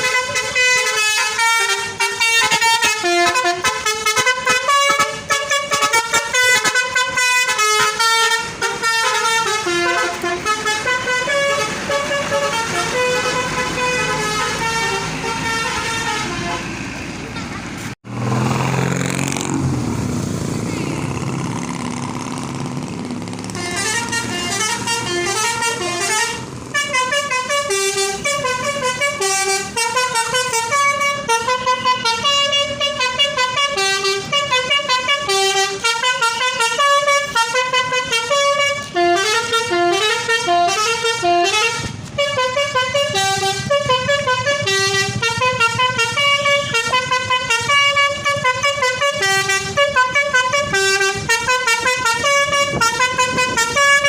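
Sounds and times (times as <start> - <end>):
multi-tone bus horn melody: 0.0 - 17.9, 23.5 - 54.0
bus engine rumbling: 0.0 - 54.0.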